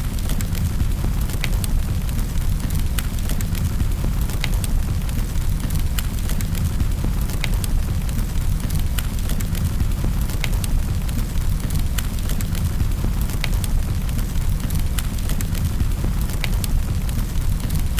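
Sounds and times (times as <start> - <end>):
low rumble of flames: 0.0 - 17.9
wood fire crackling: 0.0 - 17.9.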